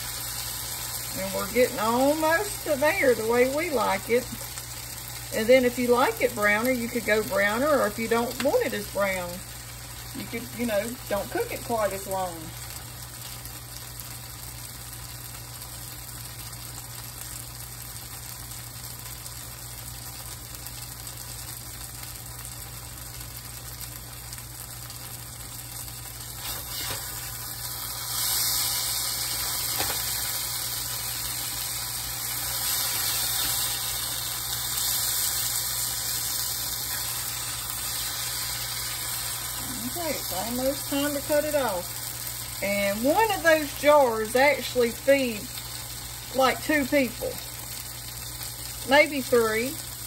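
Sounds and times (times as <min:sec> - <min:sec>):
vegetables sizzling in oil: 0:00.0 - 0:50.0.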